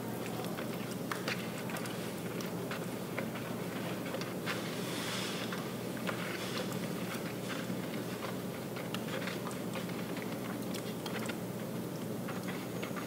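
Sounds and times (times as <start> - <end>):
fingers mixing wet plaster: 0.0 - 13.0.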